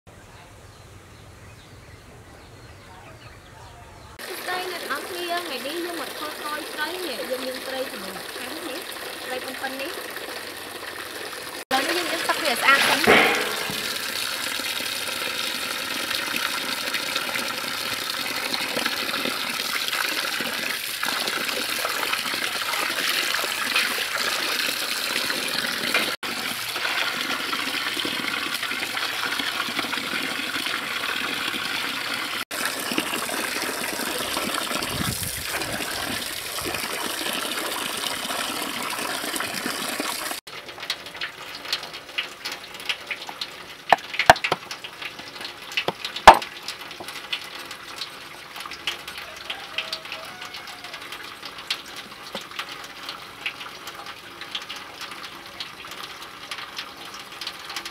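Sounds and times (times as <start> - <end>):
hose water gushing into metal basin: 4.2 - 57.9.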